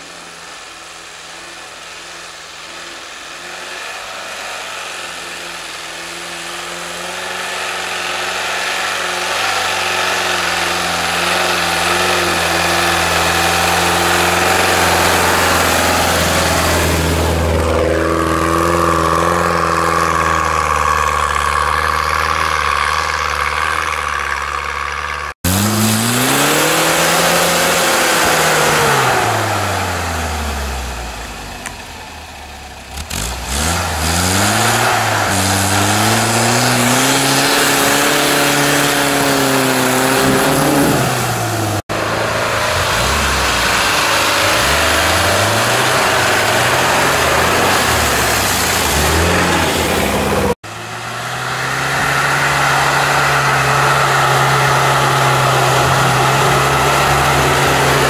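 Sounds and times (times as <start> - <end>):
off-road engine revving: 0.0 - 58.0
off-road vehicle engine in snow: 0.0 - 58.0.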